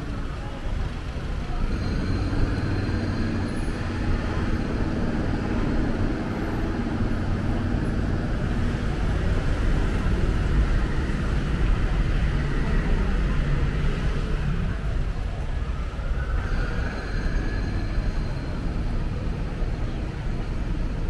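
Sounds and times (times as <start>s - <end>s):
road traffic: 0.0s - 21.0s
vehicle engine humming: 0.0s - 21.0s.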